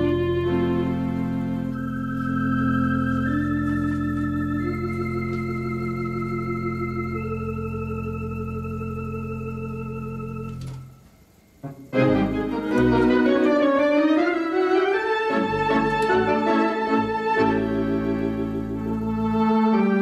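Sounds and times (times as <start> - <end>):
electronic organ playing chords: 0.0 - 20.0.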